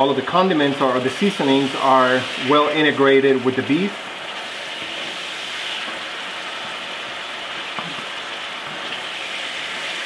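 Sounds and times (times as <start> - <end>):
meat sizzling in a skillet: 0.8 - 10.0.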